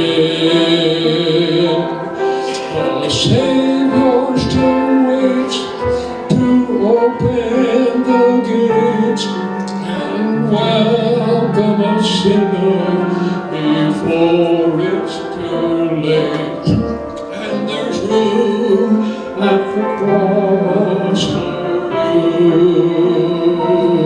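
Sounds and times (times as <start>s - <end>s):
keyboard accompaniment: 0.0s - 24.0s
man and woman singing a hymn: 0.0s - 24.0s.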